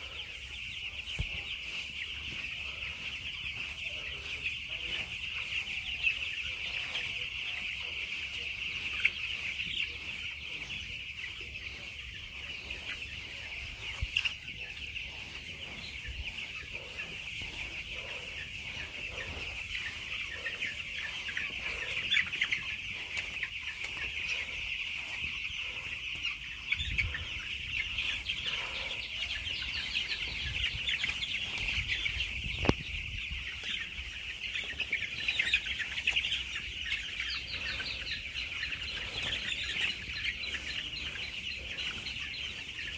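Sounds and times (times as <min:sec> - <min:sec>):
chickens cheeping and clucking: 0:00.0 - 0:42.9.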